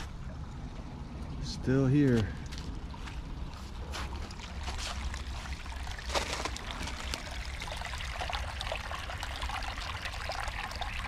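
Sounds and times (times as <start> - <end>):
creek running over stones: 1.4 - 11.0.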